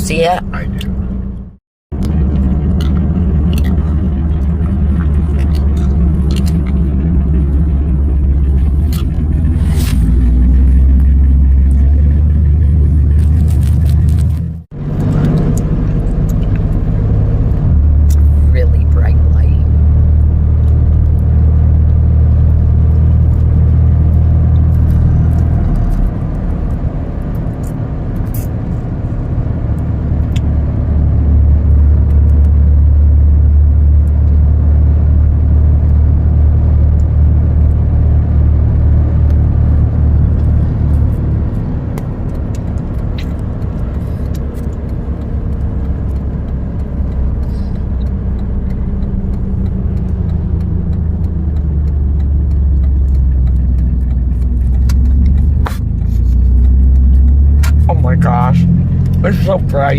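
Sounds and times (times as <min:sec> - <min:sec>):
road noise: 0:00.0 - 0:59.9
truck engine rumble: 0:00.0 - 0:59.9.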